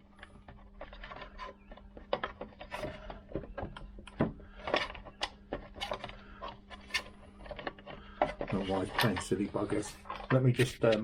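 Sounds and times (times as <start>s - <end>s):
wheel and cover knocking and scraping: 0.0s - 11.0s.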